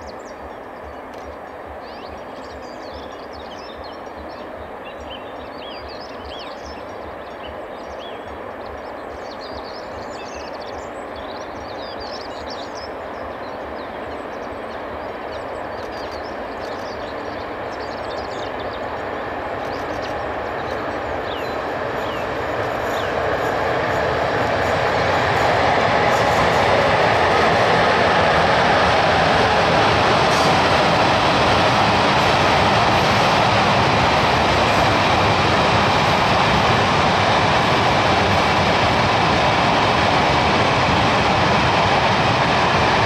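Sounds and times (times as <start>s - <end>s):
approaching train: 0.0s - 43.0s.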